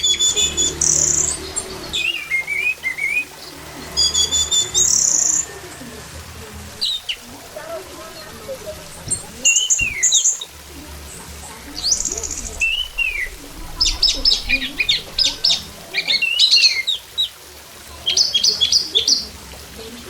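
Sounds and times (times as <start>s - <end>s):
thrush singing: 0.0s - 19.9s.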